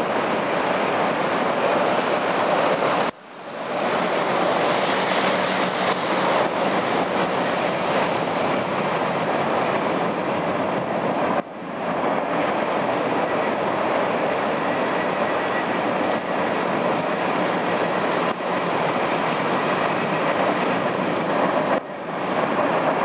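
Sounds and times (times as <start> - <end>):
train wheels rumbling on bridge: 0.0 - 23.0.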